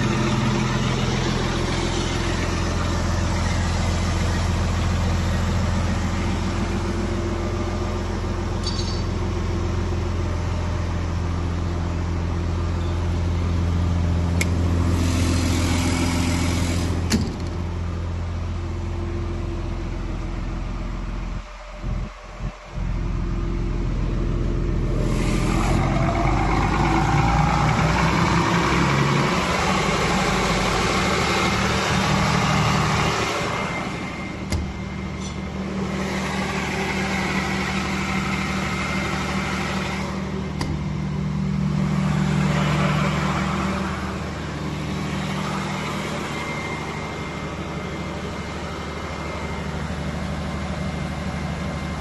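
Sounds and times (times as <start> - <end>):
diesel generator running: 0.0 - 52.0.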